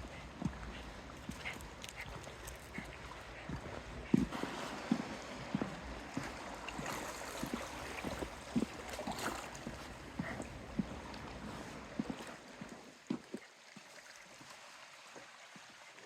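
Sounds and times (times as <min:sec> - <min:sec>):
walking footsteps: 0:00.0 - 0:13.9.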